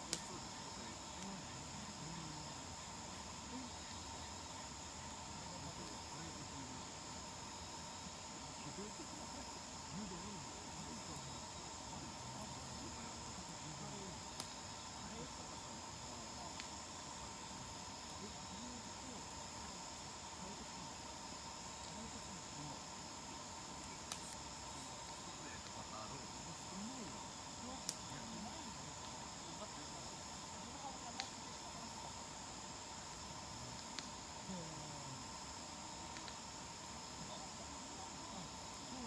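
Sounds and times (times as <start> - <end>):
crickets chirping: 0.0 - 39.0
faint indistinct voices: 0.0 - 39.0.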